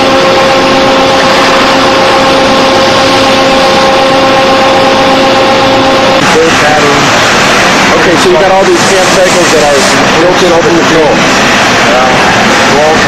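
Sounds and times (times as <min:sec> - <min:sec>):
constant machine whine: 0:00.0 - 0:13.0
conveyor mechanical hum: 0:00.0 - 0:13.0.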